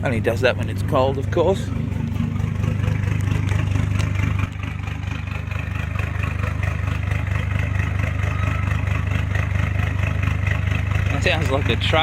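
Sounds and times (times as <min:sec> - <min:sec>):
truck engine idling lumpily: 0:00.0 - 0:12.0.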